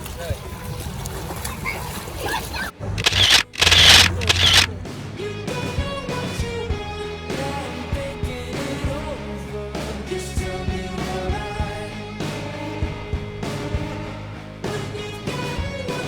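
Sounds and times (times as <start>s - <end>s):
pop-rock song with singing: 3.0s - 16.0s.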